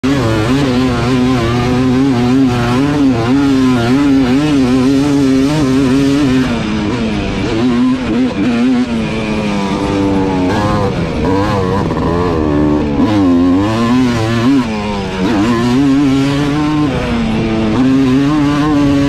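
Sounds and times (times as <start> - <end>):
atv engine revving hard: 0.0 - 19.0.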